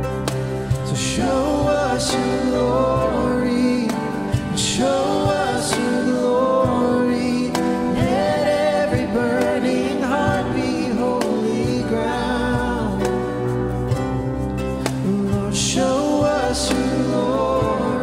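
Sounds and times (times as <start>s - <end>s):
people singing: 0.0s - 18.0s
worship band playing: 0.0s - 18.0s.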